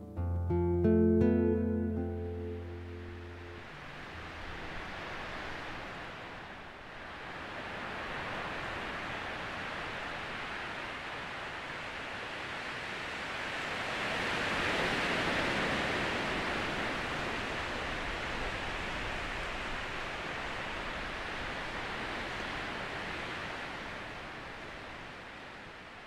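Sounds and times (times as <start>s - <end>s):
wind rushing through trees: 1.7s - 26.0s.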